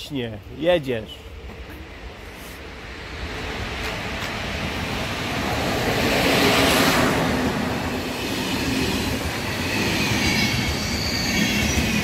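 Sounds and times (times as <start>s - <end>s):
train passing on rails: 0.0s - 12.0s.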